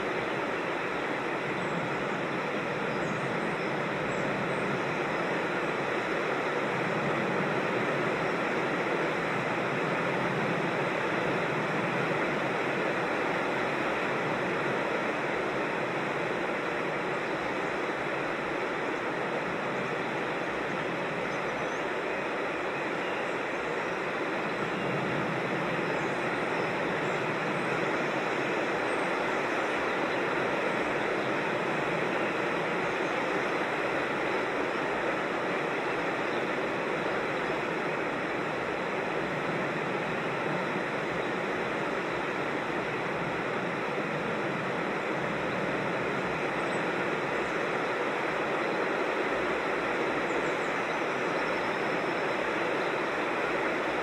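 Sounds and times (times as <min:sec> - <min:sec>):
mountain creek rushing: 0:00.0 - 0:54.0.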